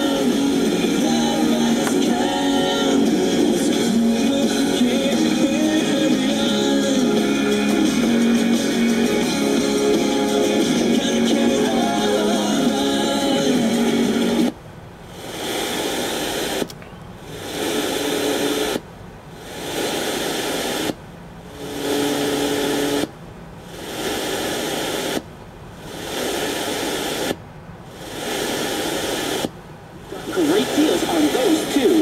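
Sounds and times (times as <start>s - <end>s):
radio static hiss: 0.0s - 32.0s.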